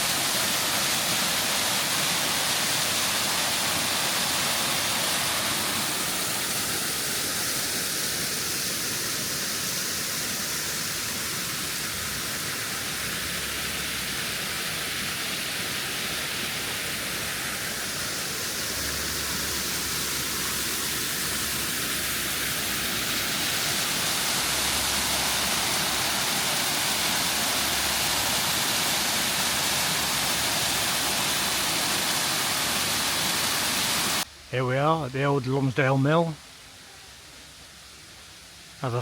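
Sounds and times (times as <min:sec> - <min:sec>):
waterfall rushing: 0:00.0 - 0:36.6.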